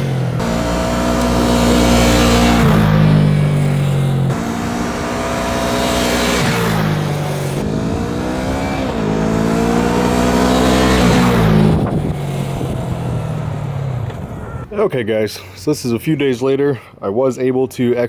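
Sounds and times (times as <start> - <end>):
motorcycle engine revving: 0.0 - 14.7.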